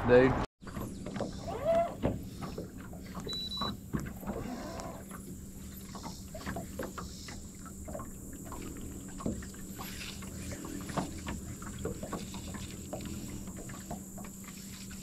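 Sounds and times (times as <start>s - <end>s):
waves slapping against boat: 0.0s - 15.0s
steady low hum: 0.9s - 15.0s.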